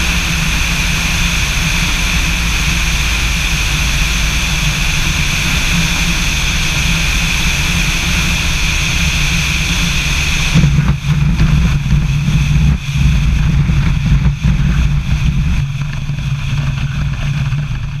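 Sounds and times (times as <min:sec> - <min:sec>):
light aircraft engine and propeller: 0:00.0 - 0:18.0
rush of air: 0:00.0 - 0:18.0.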